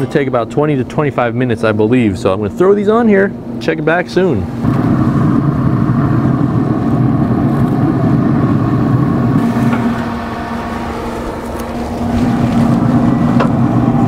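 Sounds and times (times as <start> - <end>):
smoker fan humming: 0.0 - 14.0.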